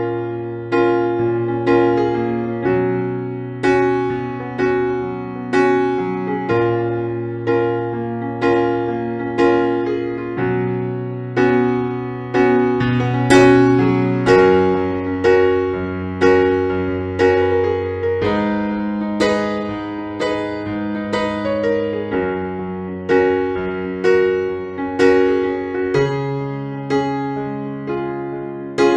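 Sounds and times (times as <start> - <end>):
gentle piano chords: 0.0 - 28.9.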